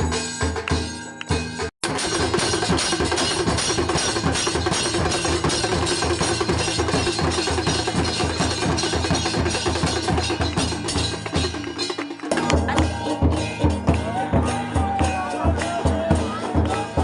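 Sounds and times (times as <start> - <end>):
clattering percussion: 0.0 - 17.0
dhol drums beaten fast: 0.0 - 17.0.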